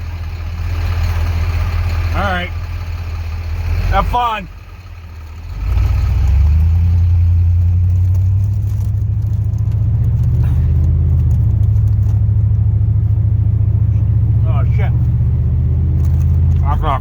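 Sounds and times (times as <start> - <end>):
truck engine low drone: 0.0 - 17.0.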